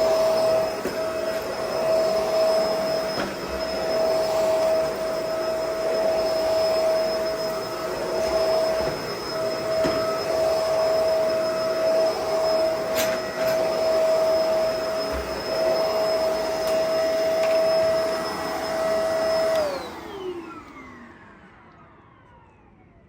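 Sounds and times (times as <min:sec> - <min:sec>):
vacuum cleaner motor whine: 0:00.0 - 0:23.0.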